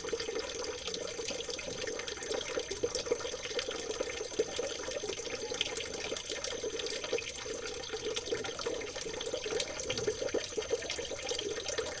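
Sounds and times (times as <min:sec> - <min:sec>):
water babbling over stones: 0:00.0 - 0:12.0.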